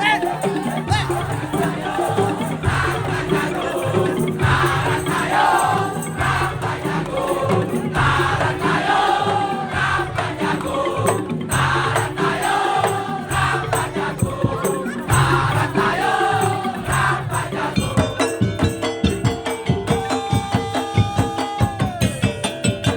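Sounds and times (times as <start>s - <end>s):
percussion ensemble drums and clackers: 0.0s - 22.9s.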